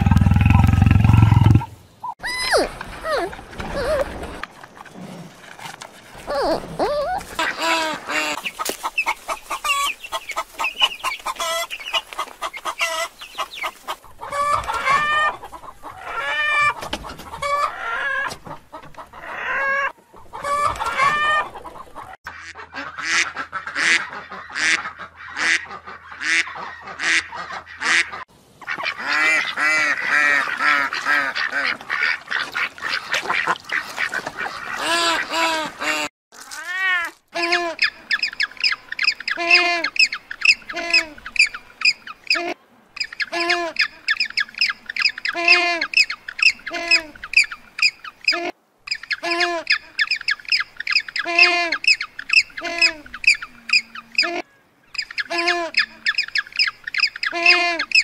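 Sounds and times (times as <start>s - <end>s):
swan calling and honking: 0.0s - 16.8s, 17.4s - 58.0s
chickens clucking: 0.0s - 36.1s, 37.4s - 58.0s.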